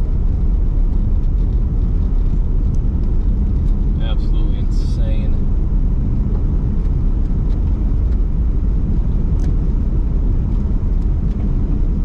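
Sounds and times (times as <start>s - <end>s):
road and wind noise in car: 0.0s - 12.0s.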